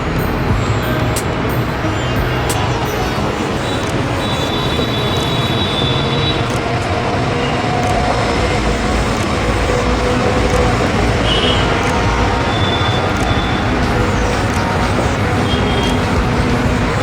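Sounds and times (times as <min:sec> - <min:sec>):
busy highway traffic rumble: 0:00.0 - 0:17.0.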